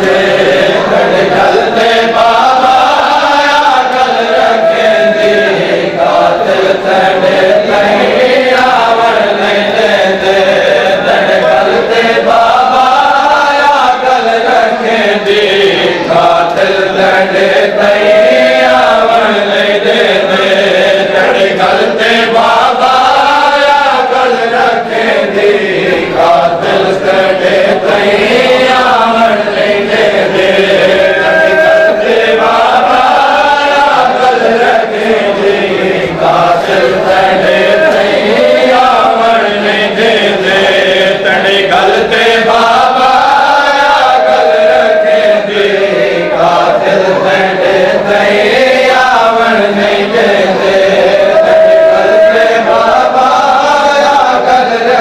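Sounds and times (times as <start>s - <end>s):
men chanting a lament: 0.0s - 55.0s.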